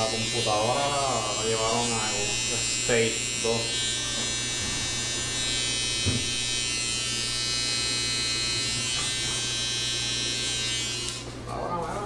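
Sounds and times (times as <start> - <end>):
electric hair clippers buzzing: 0.0 - 11.4.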